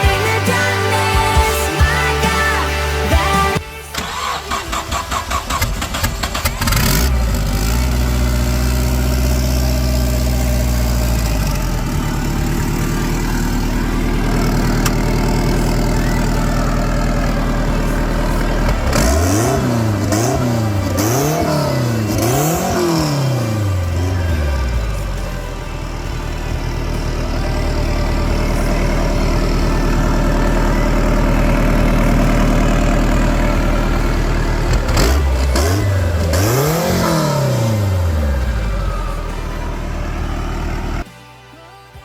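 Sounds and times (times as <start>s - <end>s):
engine revving: 0.0s - 41.1s
engine starter cranking: 0.0s - 41.1s
car engine idling: 0.0s - 41.6s.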